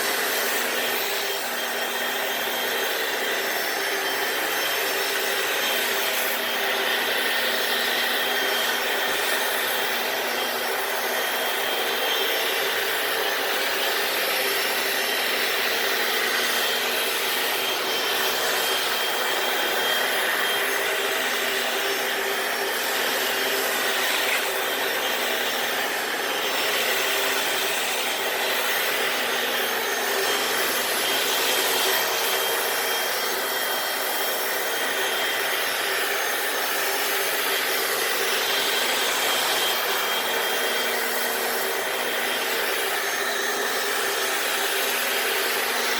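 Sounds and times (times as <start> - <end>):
floor cleaner motor and suction: 0.0 - 45.9.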